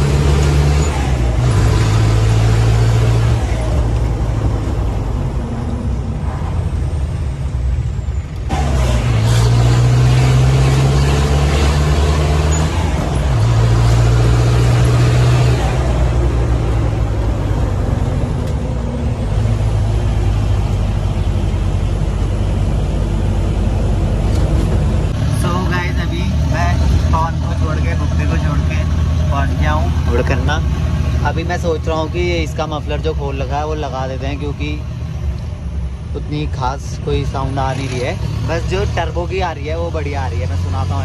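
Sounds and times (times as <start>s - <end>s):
jeep engine running loud exhaust: 0.0s - 41.0s.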